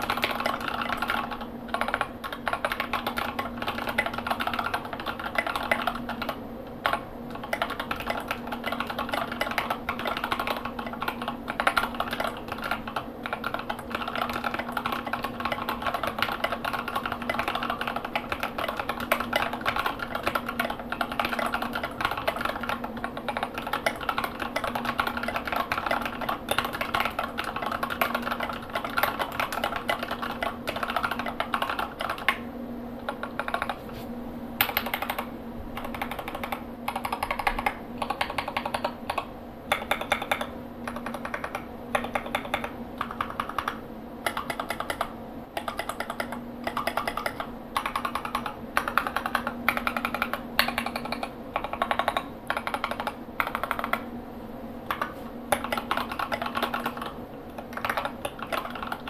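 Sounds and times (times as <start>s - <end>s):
mechanical keyboard typing: 0.0s - 33.8s, 34.6s - 54.1s, 54.9s - 59.0s.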